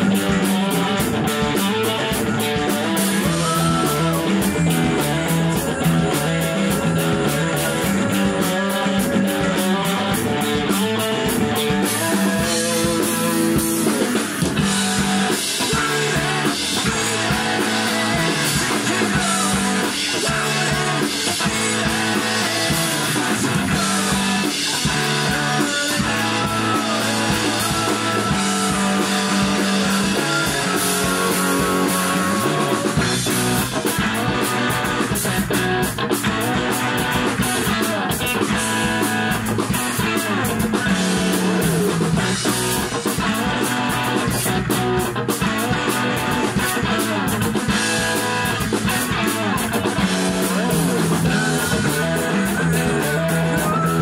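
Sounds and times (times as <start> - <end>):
distorted electric guitars: 0.0 - 54.0
drum kit: 0.0 - 54.0
rock band playing live: 0.0 - 54.0.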